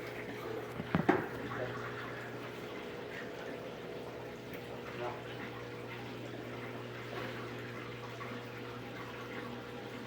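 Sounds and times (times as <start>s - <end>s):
washing machine low hum: 0.0s - 10.0s
water running from tap: 0.0s - 10.0s.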